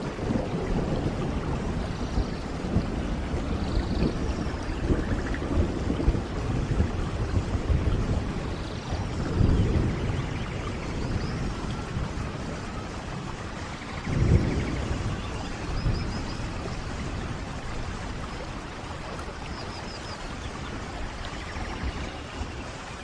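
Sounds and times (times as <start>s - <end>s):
rumbling thunder: 0.0s - 23.0s
steady rain: 0.0s - 23.0s.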